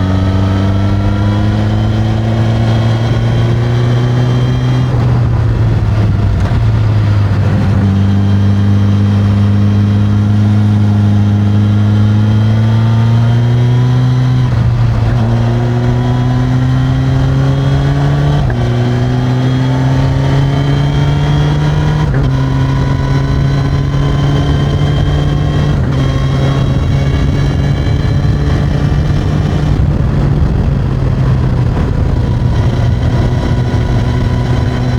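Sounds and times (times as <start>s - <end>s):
motorcycle engine under load: 0.0s - 34.9s.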